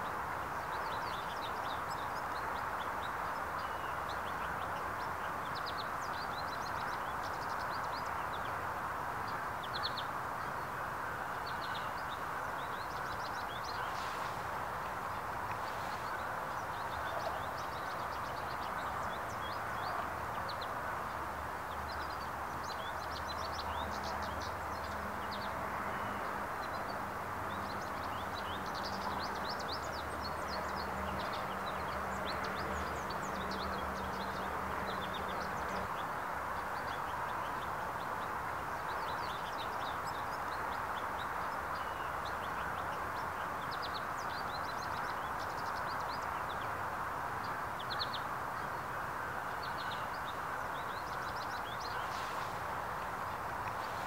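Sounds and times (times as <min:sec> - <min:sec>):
small birds chirping: 0:00.0 - 0:54.0
steady background hiss: 0:00.0 - 0:54.0.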